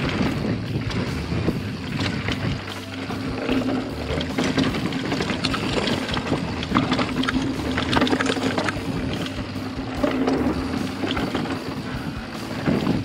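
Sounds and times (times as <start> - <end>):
bike rattling over stones: 0.0 - 13.0
tyres on gravel: 0.0 - 13.0
wind on microphone: 0.0 - 13.0.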